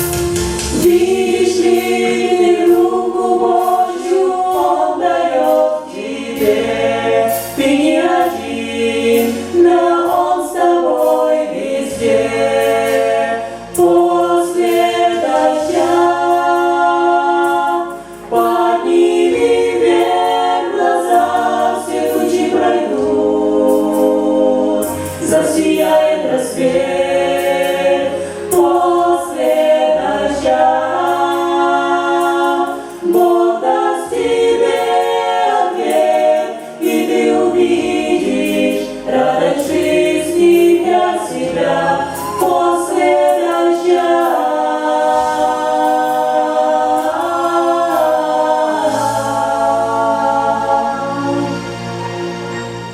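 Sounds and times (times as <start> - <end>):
group singing in harmony: 0.0 - 52.9.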